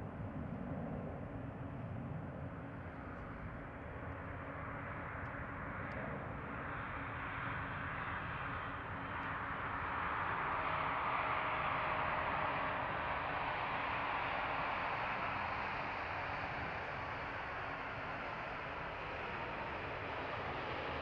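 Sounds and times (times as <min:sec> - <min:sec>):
distant jet engine rumble: 0:00.0 - 0:21.0.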